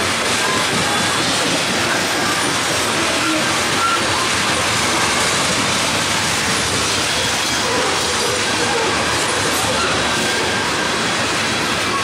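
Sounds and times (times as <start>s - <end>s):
freight train wheels on rail: 0.0s - 12.0s.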